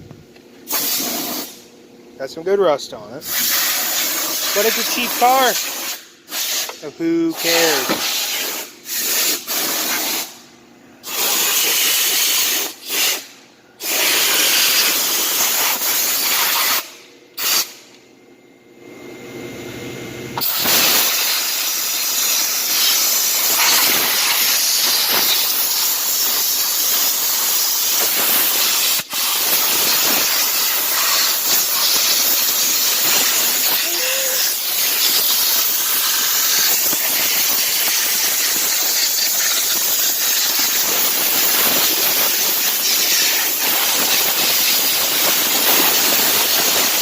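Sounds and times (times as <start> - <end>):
pressure washer spraying: 0.7 - 1.5, 3.2 - 6.8, 7.4 - 10.3, 11.0 - 17.8, 20.4 - 47.0.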